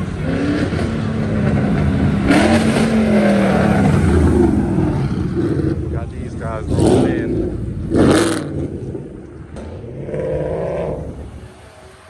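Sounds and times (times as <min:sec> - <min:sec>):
car engine accelerating past: 0:00.0 - 0:12.0.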